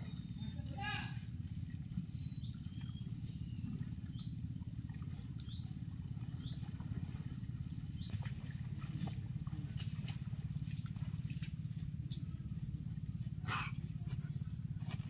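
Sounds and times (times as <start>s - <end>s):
wading through shallow water: 0.0s - 15.0s.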